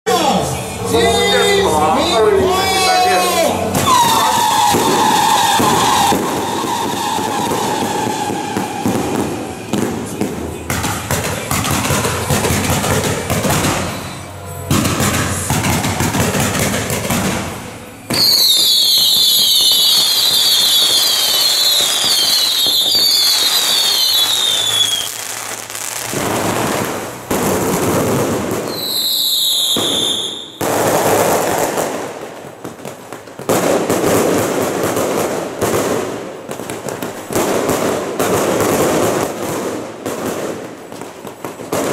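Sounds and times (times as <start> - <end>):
firecrackers crackling: 0.1 - 41.9
whistling fireworks: 0.1 - 41.9.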